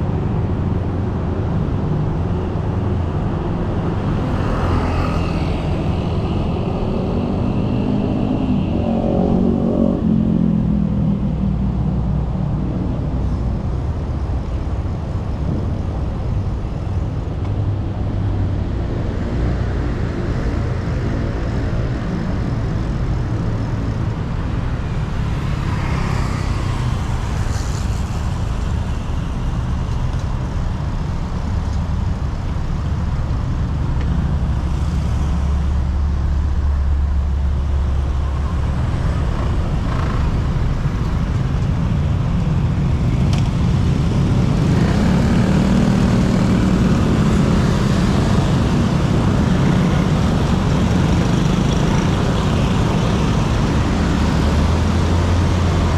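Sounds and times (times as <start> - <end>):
road traffic: 0.0 - 55.9.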